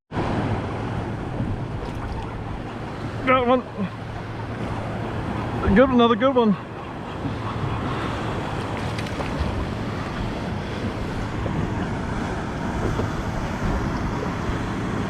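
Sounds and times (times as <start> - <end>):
wind on microphone: 0.2 - 15.0
waves washing against rocks: 0.3 - 15.0.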